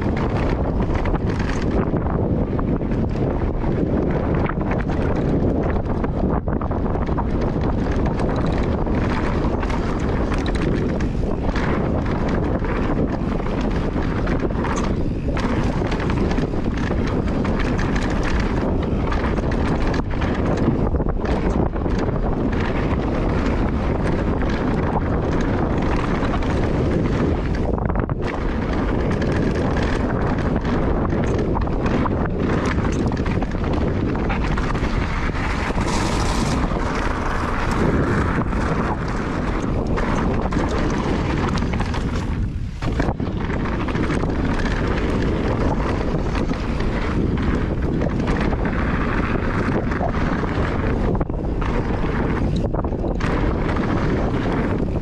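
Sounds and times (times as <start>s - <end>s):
tyres rumbling over gravel: 0.0s - 55.0s
wind rushing over microphone: 0.0s - 55.0s.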